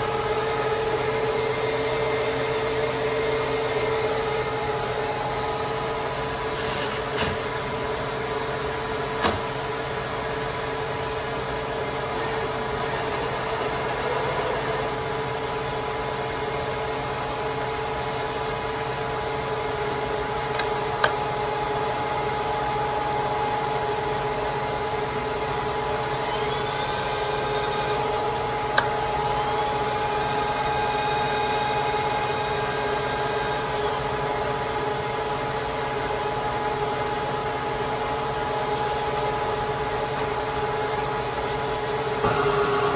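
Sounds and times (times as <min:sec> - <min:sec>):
faint rising and falling whines: 0:00.0 - 0:42.9
milling machine motor hum: 0:00.0 - 0:42.9.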